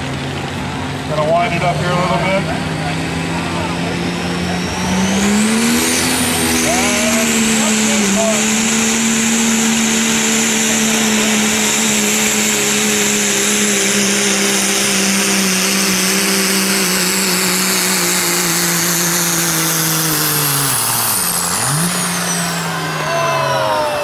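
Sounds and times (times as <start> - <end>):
diesel truck engine at full throttle: 0.0 - 24.0
turbo whistle winding down: 3.8 - 24.0.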